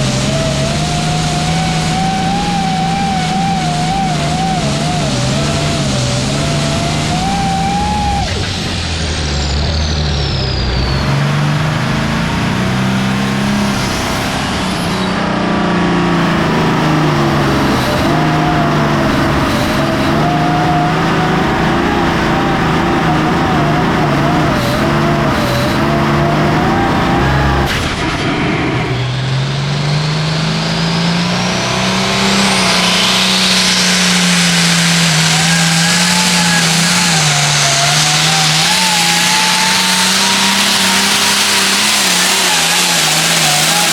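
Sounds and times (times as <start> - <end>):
diesel tractor engine under load: 0.0 - 43.9
high whine: 0.0 - 43.9.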